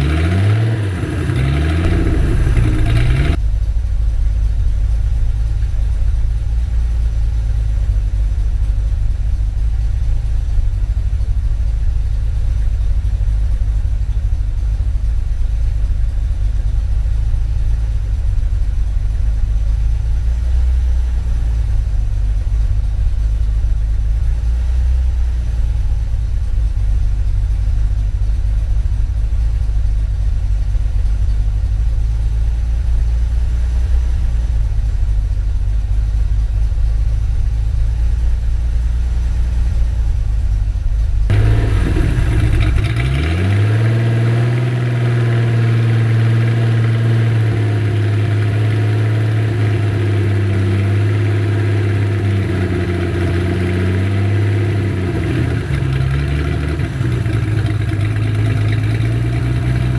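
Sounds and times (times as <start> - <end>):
car engine idling: 0.0 - 59.9
car engine revving at exhaust: 0.0 - 59.9.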